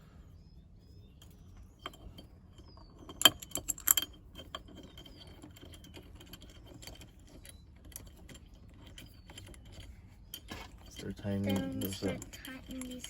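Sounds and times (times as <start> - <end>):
small metal parts clicking: 1.2 - 13.0.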